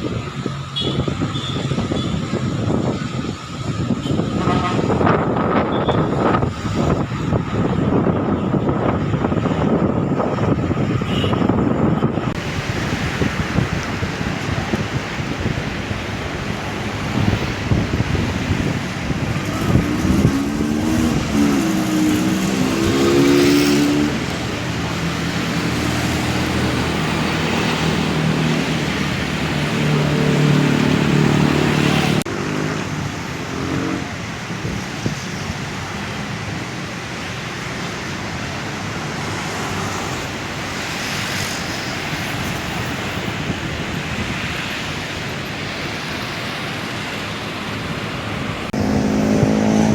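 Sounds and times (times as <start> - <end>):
road traffic passing: 0.0 - 49.9.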